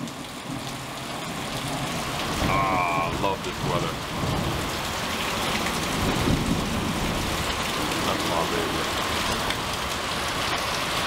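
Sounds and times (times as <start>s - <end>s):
heavy rain falling: 0.0s - 11.0s
low rumble of thunder: 1.3s - 10.4s.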